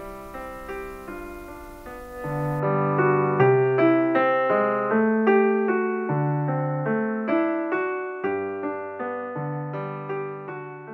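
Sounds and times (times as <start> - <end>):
solo piano music: 0.0 - 10.9.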